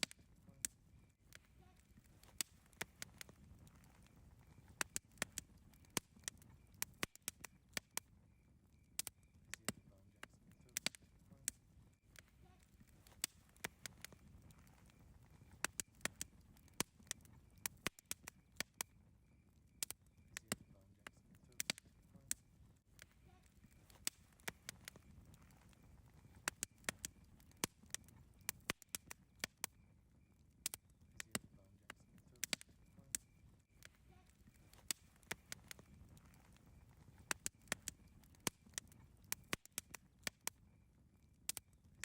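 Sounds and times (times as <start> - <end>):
campfire crackling and popping: 0.0 - 42.0
low rumble of burning fire: 0.0 - 42.0.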